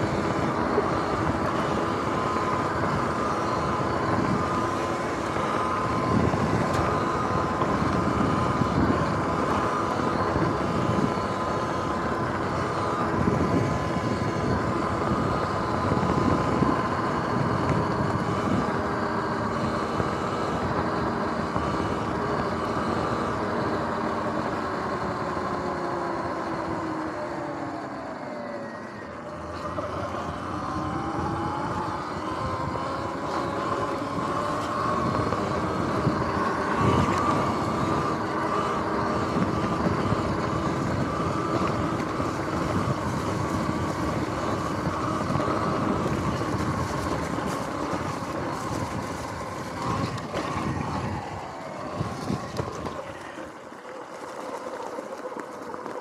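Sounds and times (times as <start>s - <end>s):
electric motor whining: 0.0s - 56.0s
rough rumble of off-road riding: 0.0s - 56.0s.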